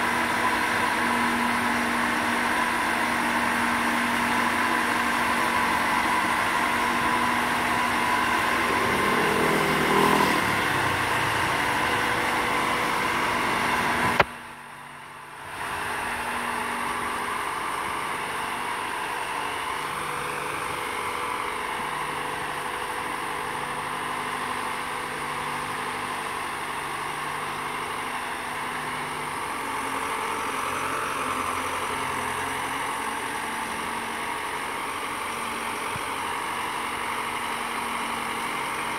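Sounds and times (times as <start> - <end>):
travel lift engine running: 0.0 - 38.9.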